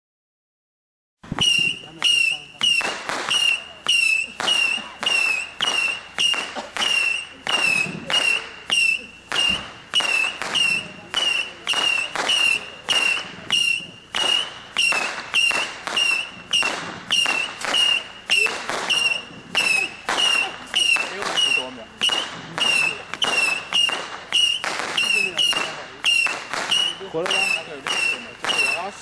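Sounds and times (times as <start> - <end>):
firework launch pops: 1.2 - 29.0
whistling firework missiles: 1.2 - 29.0.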